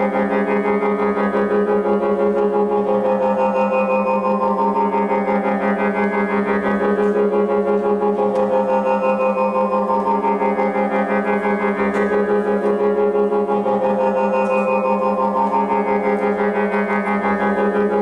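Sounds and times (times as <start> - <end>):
electronic drone music: 0.0 - 18.0.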